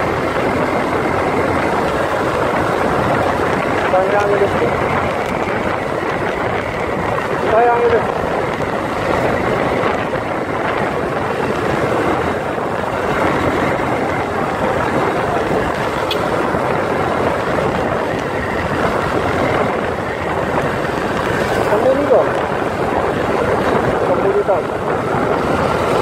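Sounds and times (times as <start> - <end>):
motorcycle noise: 0.0 - 26.0
wind rushing: 0.0 - 26.0.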